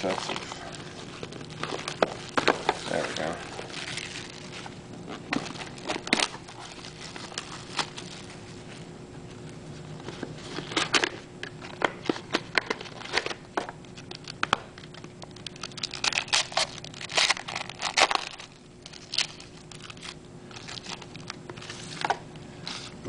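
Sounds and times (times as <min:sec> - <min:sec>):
card pack wrappers crinkling: 0:00.0 - 0:08.9, 0:10.1 - 0:22.9.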